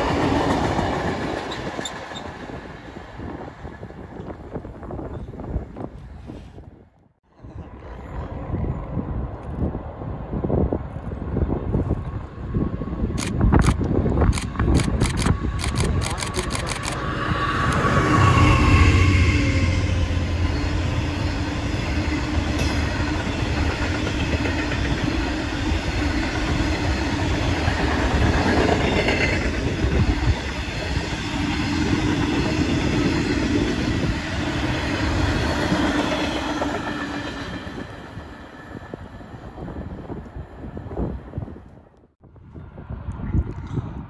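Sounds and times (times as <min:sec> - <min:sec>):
freight train rolling past: 0:00.0 - 0:06.4, 0:07.3 - 0:42.0
wheels rumbling on rails: 0:00.0 - 0:44.0.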